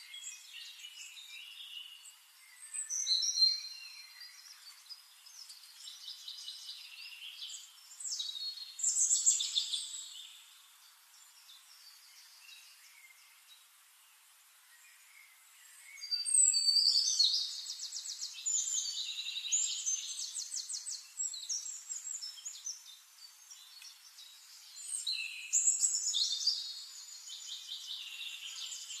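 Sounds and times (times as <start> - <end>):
faint background hiss: 0.0 - 29.0.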